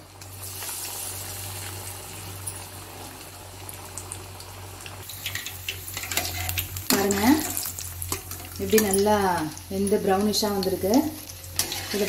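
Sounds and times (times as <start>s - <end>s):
fritters sizzling in hot oil: 0.0s - 12.0s.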